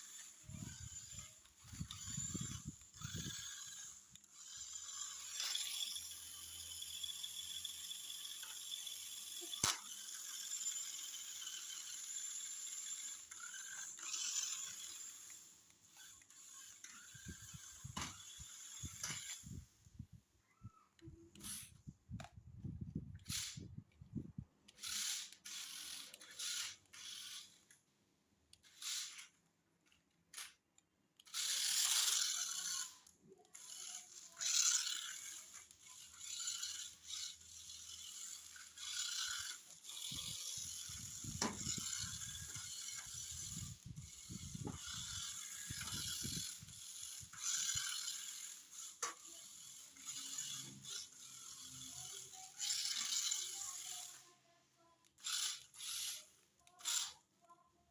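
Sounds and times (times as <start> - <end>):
toy car motor whirring: 0.0 - 57.9.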